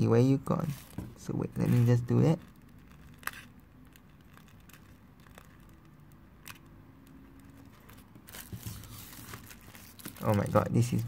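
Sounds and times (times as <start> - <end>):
paper rustling: 0.6 - 11.0.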